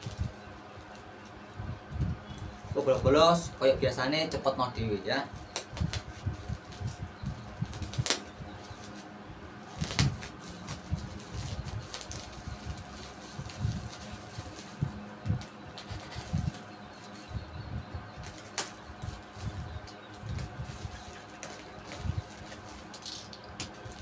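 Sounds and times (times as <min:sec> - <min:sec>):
plastic wrapping crinkling: 0:00.0 - 0:01.4, 0:05.3 - 0:17.4, 0:18.2 - 0:24.0.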